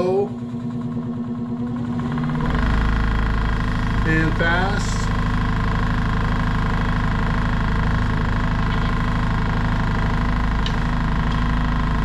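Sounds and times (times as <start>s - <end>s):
scroll saw running: 0.0s - 12.0s.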